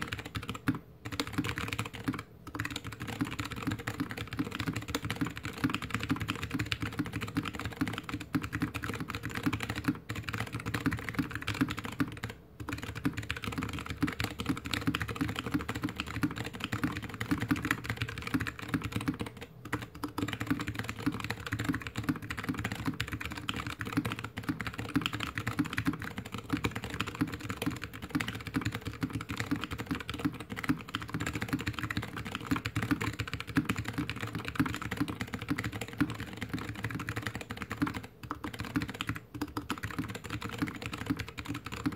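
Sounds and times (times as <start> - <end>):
mechanical keyboard typing: 0.0 - 41.9.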